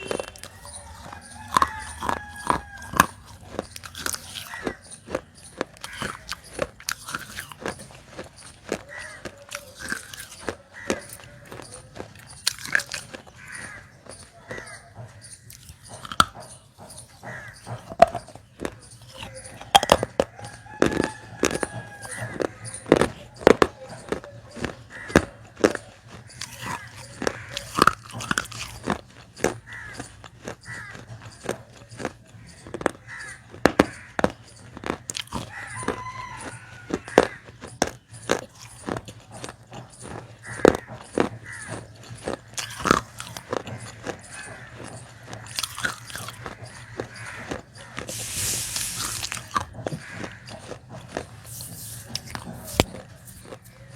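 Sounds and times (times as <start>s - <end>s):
clay pieces crunching in mouth: 0.0s - 53.9s.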